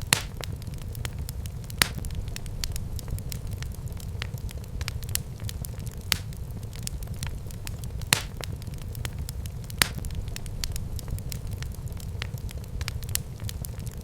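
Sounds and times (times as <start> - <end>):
fire popping sharply: 0.0 - 14.0
low rumble of flames: 0.0 - 14.0.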